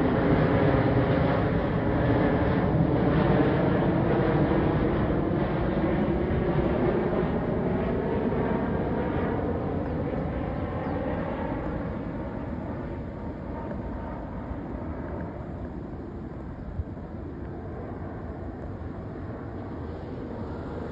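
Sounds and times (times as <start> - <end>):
jet airliner engines rumbling: 0.0 - 20.9.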